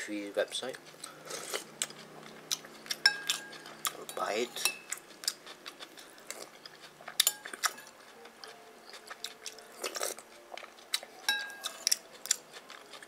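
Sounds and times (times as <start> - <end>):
person chewing food: 0.5 - 13.0.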